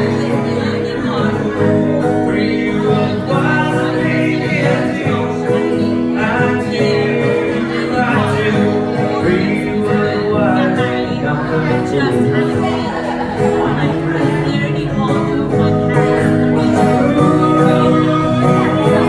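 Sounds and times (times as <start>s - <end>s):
acoustic guitar chords: 0.0s - 19.0s
person singing: 0.0s - 19.0s.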